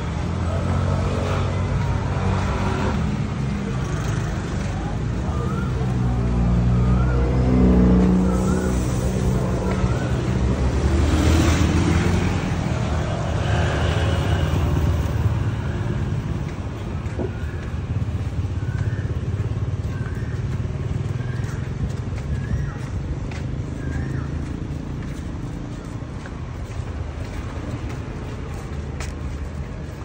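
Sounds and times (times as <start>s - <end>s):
car and motorbike engines: 0.0s - 30.0s
loud vehicle passing: 0.0s - 30.0s.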